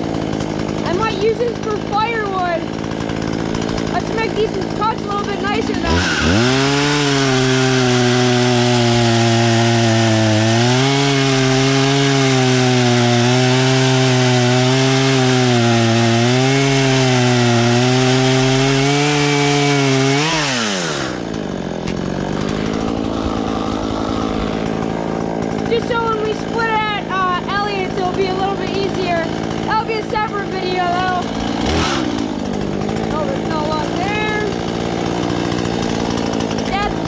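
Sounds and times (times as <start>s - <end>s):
chainsaw cutting log: 0.0s - 37.0s
chainsaw engine idling: 0.0s - 37.0s.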